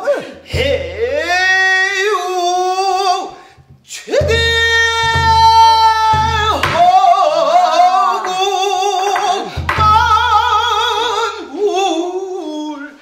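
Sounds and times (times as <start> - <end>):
man singing with wide vibrato: 0.0 - 13.0.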